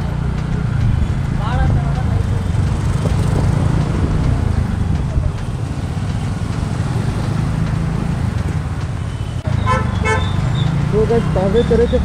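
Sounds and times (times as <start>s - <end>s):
motorcycle engine and road noise: 0.0s - 12.0s.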